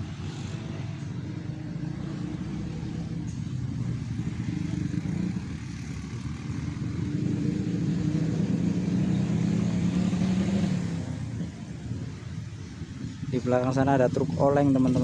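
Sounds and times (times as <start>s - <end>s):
tyre and road noise: 0.0s - 15.0s.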